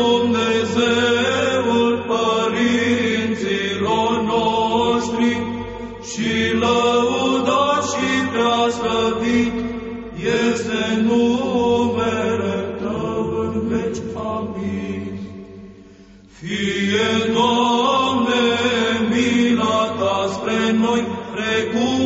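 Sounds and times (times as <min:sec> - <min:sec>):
chanters singing melismatic chant: 0:00.0 - 0:15.2, 0:16.4 - 0:22.0
low held drone: 0:00.0 - 0:22.0.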